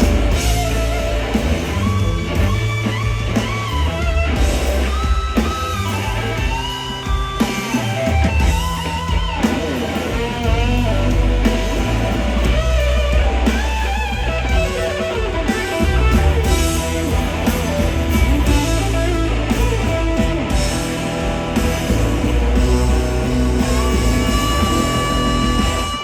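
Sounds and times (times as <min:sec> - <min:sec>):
bass and drums: 0:00.0 - 0:26.0
electric guitar solo: 0:00.0 - 0:26.0.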